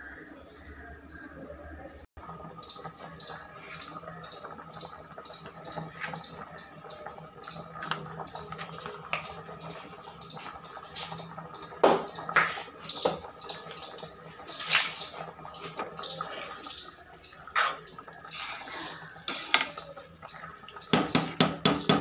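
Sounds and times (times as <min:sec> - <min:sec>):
liquid boiling and bubbling: 0:00.0 - 0:22.0.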